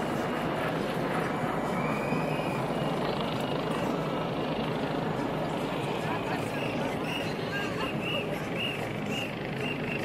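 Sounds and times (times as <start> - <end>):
engine drone: 0.0 - 10.0.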